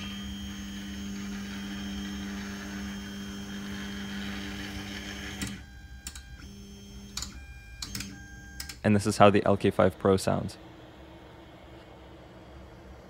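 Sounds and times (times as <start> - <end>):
stepper motors humming and whining: 0.0 - 13.0.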